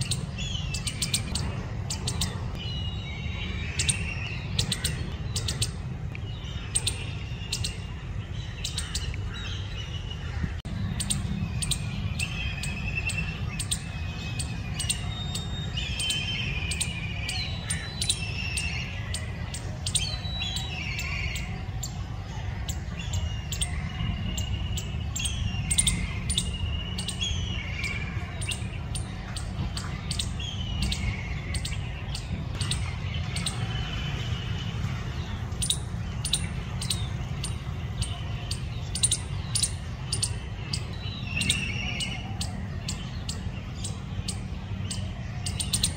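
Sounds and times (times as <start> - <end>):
squirrel chipping and chirping: 0.0 - 10.0, 10.6 - 45.9
steady low rumble: 0.0 - 45.9.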